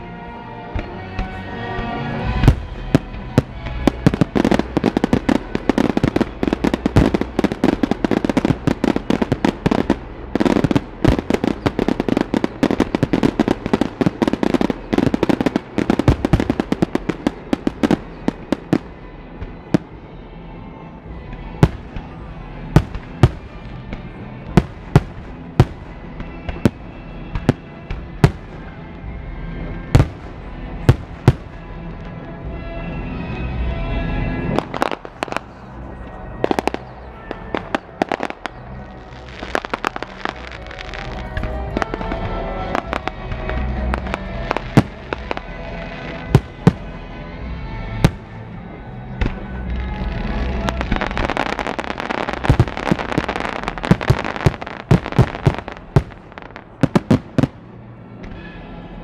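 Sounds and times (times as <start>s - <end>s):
music playing: 0.0s - 59.0s
fireworks bangs and crackle: 0.7s - 20.3s, 21.0s - 59.0s.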